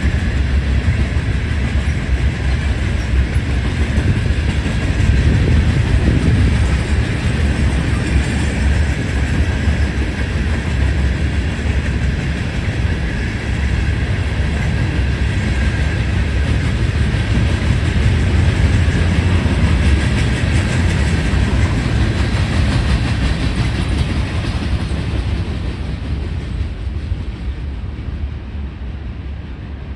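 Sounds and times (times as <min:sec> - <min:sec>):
clickety-clack of wheels: 0:00.0 - 0:28.3
train wheels rumbling on rails: 0:00.0 - 0:29.9.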